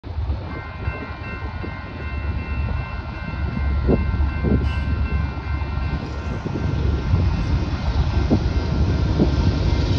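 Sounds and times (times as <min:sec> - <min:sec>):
diesel locomotive engine rumble: 0:00.0 - 0:09.9
high-pitched whine: 0:00.1 - 0:09.9.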